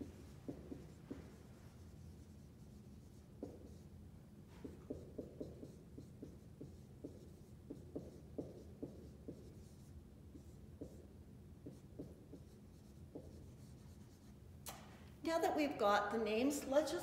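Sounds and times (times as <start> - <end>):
marker scratching on whiteboard: 0.0 - 14.4.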